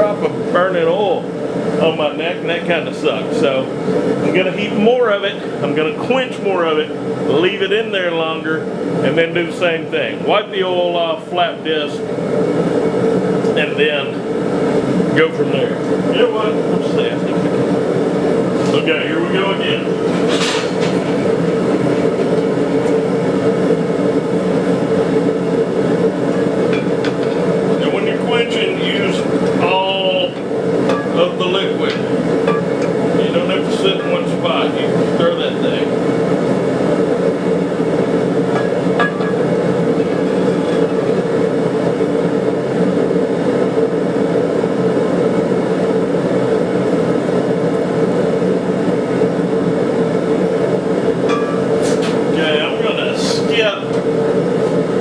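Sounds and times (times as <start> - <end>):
forge roaring: 0.0 - 55.0
machine-like hum: 0.0 - 55.0.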